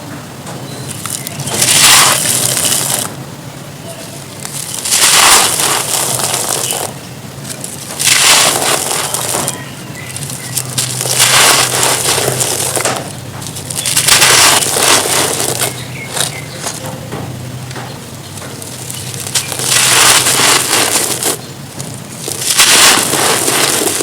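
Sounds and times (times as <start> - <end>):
soft crackling: 0.0 - 24.0
crumbly stone crushed with gritty crunches: 0.9 - 3.2, 4.3 - 24.0.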